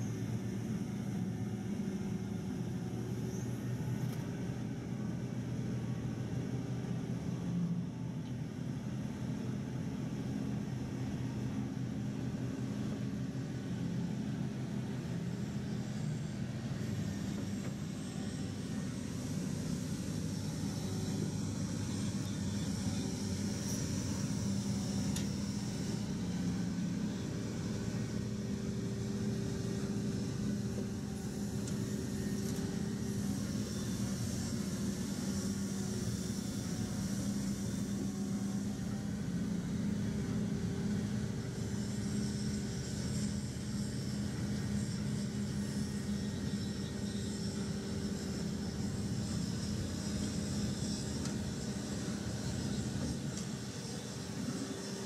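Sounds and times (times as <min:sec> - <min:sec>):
diesel machinery droning: 0:00.0 - 0:55.0.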